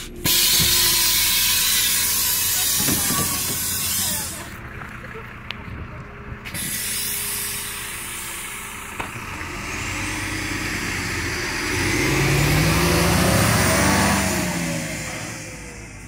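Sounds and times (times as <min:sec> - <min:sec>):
bus diesel engine accelerating: 0:00.0 - 0:16.0.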